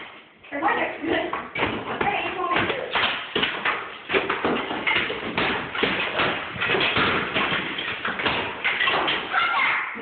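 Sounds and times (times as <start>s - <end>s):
hammers striking plaster wall: 1.3s - 9.8s.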